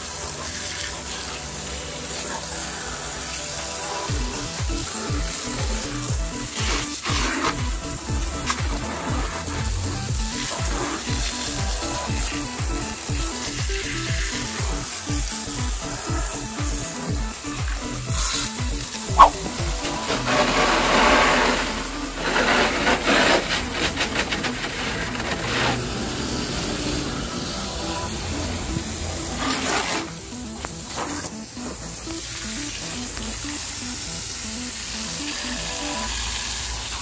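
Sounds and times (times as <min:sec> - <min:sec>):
hose water spraying and splashing: 0:00.0 - 0:37.0
background music with beat: 0:00.1 - 0:25.3, 0:27.1 - 0:37.0.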